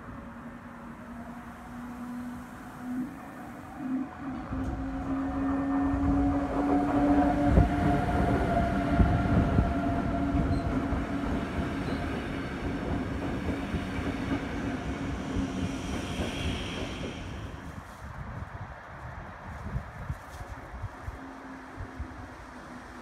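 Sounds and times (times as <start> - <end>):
electric locomotive hum: 0.0 - 23.0.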